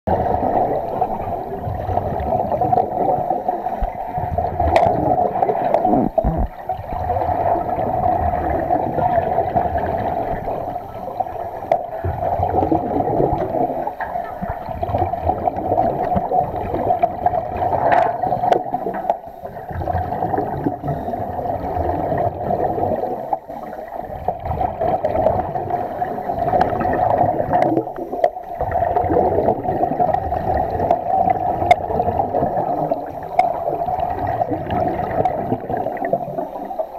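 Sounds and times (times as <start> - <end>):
scuba regulator bubbling: 0.1 - 36.9
underwater rush of water: 0.1 - 36.9.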